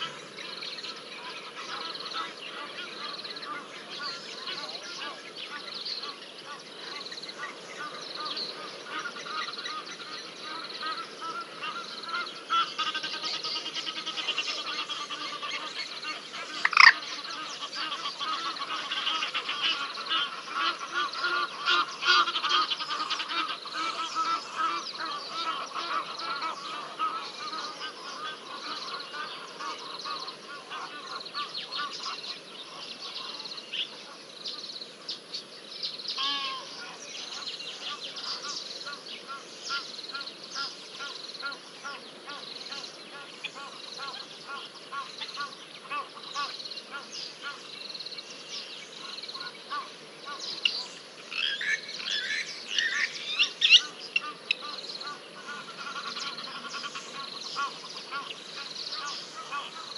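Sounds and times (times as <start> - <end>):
geese honking: 1.2 - 33.9, 36.2 - 47.6, 49.0 - 59.9.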